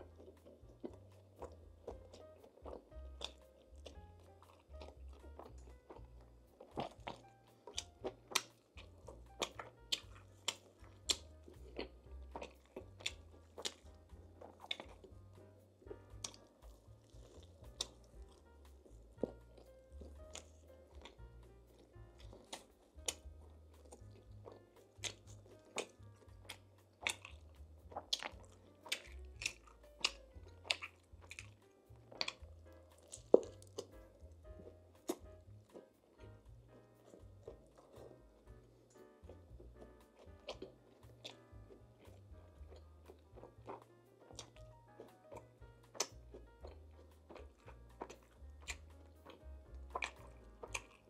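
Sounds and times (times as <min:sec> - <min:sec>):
background music with bass: 0:00.0 - 0:51.0
mouth clicks and smacks: 0:00.0 - 0:51.0
person chewing food: 0:00.0 - 0:51.0.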